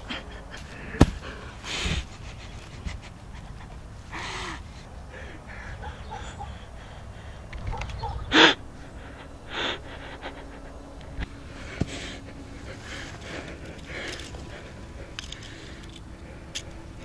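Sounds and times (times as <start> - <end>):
man breathing heavily: 0.0 - 17.0.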